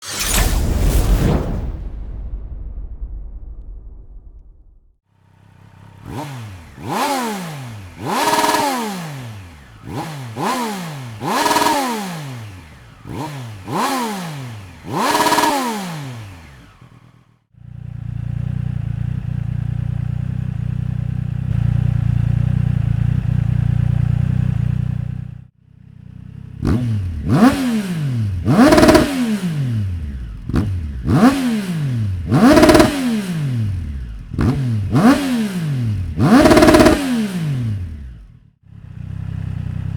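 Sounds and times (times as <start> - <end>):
motorcycle engine revving: 5.2 - 39.9.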